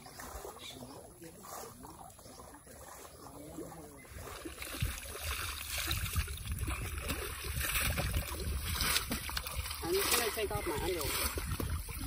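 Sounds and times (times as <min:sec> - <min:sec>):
shallow water splashing: 0:00.0 - 0:12.0.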